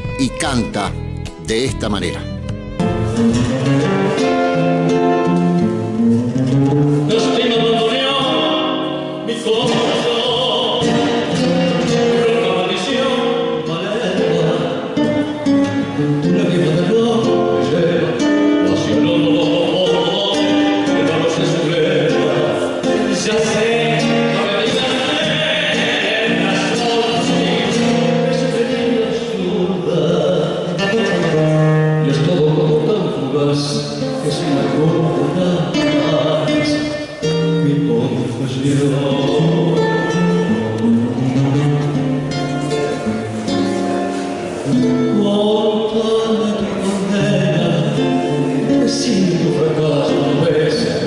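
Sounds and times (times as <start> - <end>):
man singing: 0.0 - 2.4, 6.6 - 51.0
guitar accompaniment: 0.0 - 51.0.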